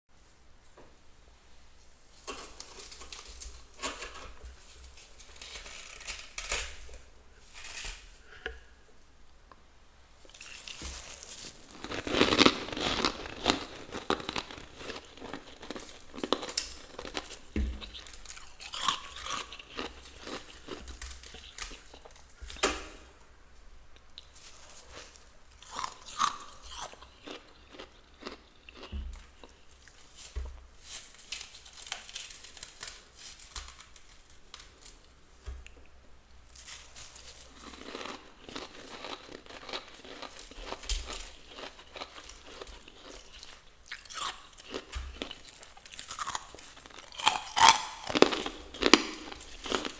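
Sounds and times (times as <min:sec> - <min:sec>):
freezer frost crunching: 0:02.1 - 0:08.6, 0:10.2 - 0:23.1, 0:24.2 - 0:35.8, 0:36.4 - 0:49.9.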